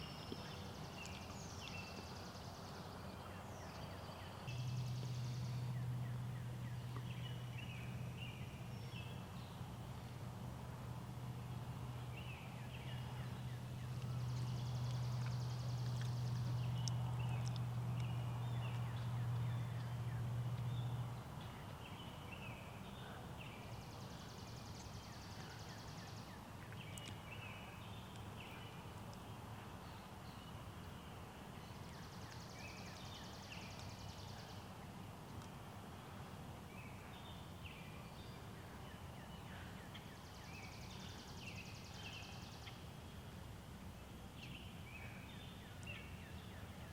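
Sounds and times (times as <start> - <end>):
songbirds chirping: 0.0 - 46.9
steady low hum: 0.0 - 46.9.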